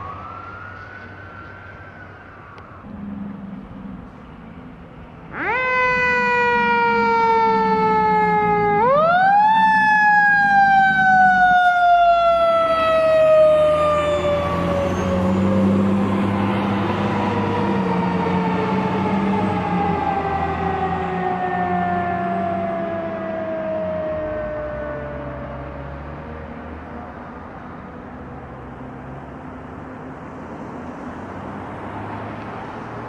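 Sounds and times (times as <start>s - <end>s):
truck engine rumble: 0.0s - 33.0s.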